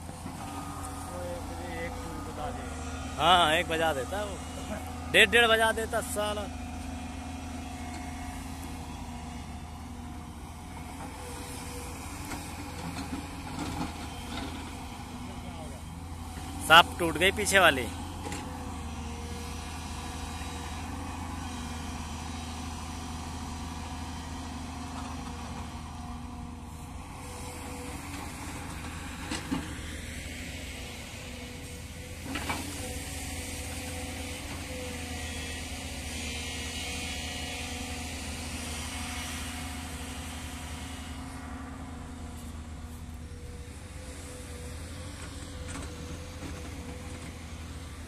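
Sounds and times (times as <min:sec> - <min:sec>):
diesel machinery engines droning: 0:00.0 - 0:48.0.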